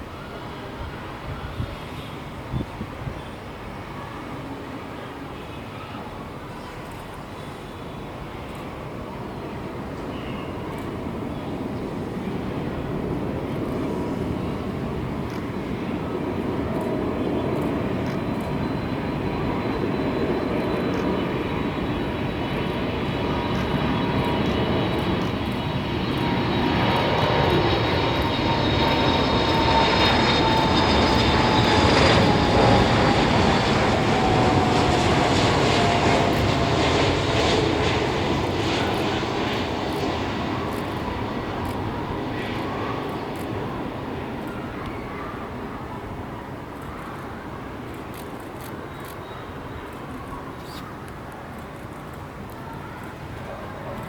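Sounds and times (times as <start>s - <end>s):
jet plane passing: 8.1s - 54.0s.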